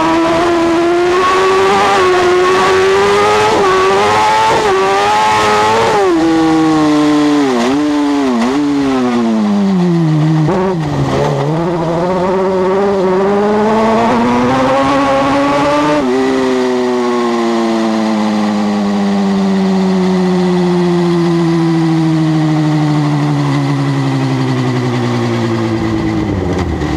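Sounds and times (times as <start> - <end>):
buggy engine revving: 0.0 - 26.9.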